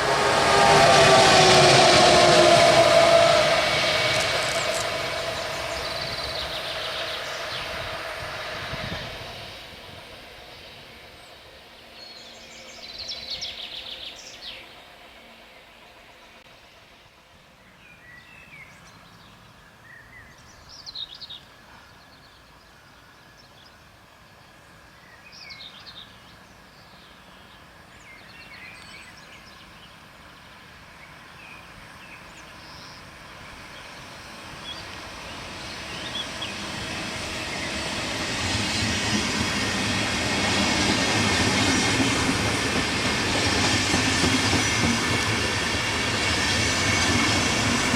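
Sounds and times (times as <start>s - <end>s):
passing train: 0.0s - 47.9s.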